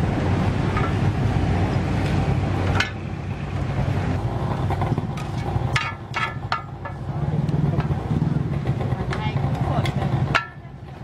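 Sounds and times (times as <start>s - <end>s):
low street traffic rumble: 0.0s - 11.0s.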